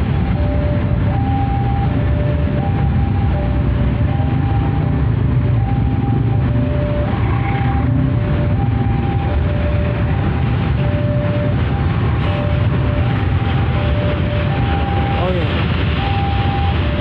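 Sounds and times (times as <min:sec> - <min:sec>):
freight train rumbling past: 0:00.0 - 0:17.0
two-tone electronic warning tone: 0:00.0 - 0:17.0.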